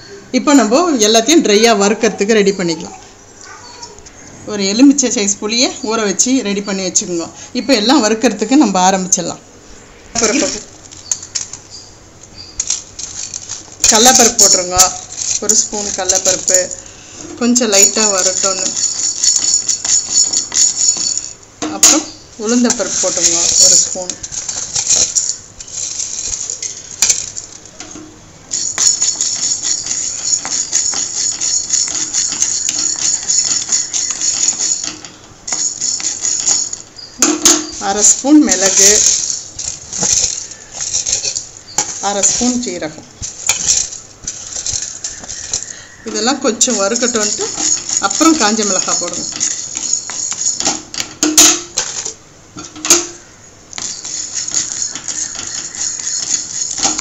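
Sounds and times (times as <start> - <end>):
seeds scraping and rattling in pan: 10.2 - 57.0.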